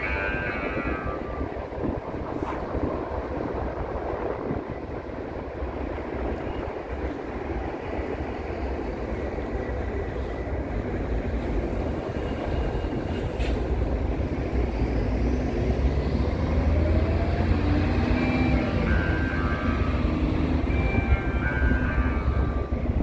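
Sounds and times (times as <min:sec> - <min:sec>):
train passing: 0:00.0 - 0:23.0
wind buffeting microphone: 0:00.0 - 0:23.0
bus engine pulling away: 0:00.2 - 0:23.0.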